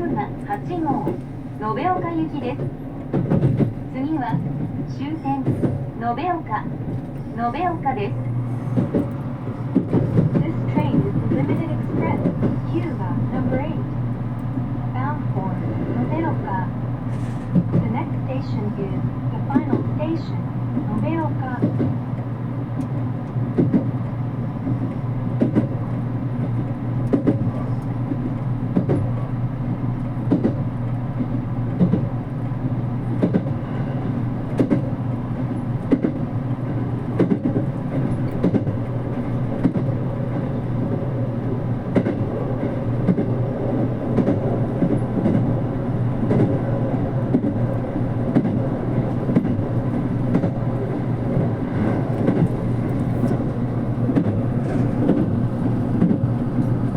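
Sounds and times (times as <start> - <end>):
train rumble and hum: 0.0 - 56.9.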